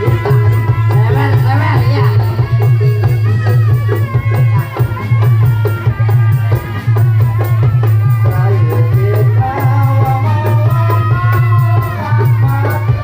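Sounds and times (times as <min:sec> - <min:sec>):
drums: 0:00.0 - 0:13.0
rattling percussion: 0:00.0 - 0:13.0.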